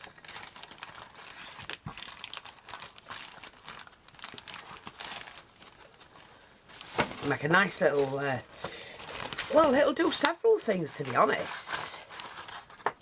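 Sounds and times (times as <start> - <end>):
paper and card rustling: 0.0 - 13.0.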